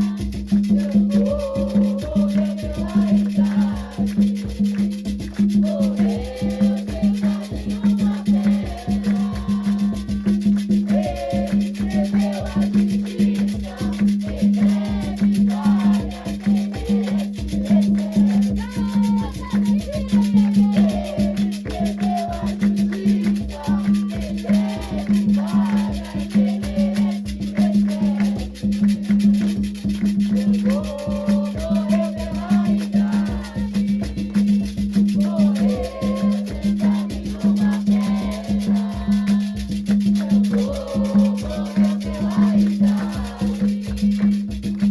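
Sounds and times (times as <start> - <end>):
voices chanting a melody: 0.0 - 4.8, 5.5 - 29.5, 30.4 - 44.9
hand drums: 0.0 - 44.9
shaken percussion: 0.0 - 44.9.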